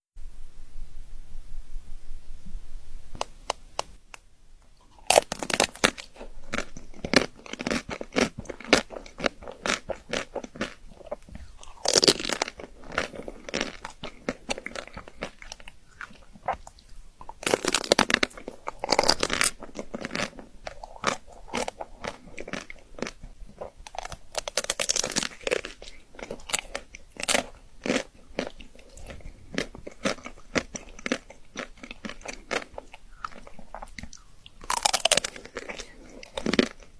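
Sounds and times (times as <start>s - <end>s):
clicky chewing: 4.8s - 36.9s
crunching chocolate bites: 4.8s - 36.9s.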